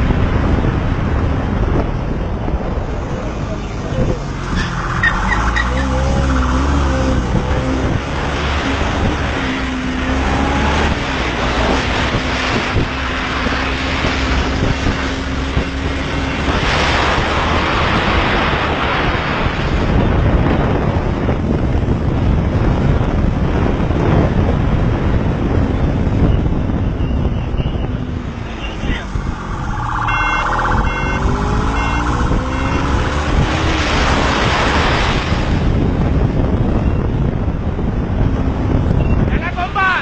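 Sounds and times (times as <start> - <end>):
vehicle engine at speed: 0.0 - 39.3
wind and road rush: 0.0 - 40.0.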